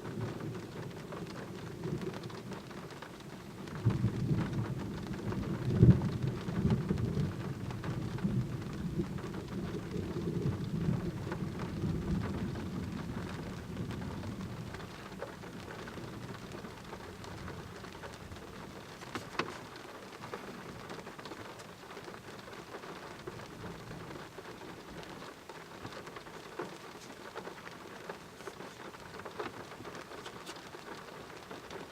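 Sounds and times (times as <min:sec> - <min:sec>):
thunder rumbling: 0:00.0 - 0:30.2
steady rain: 0:00.0 - 0:31.9.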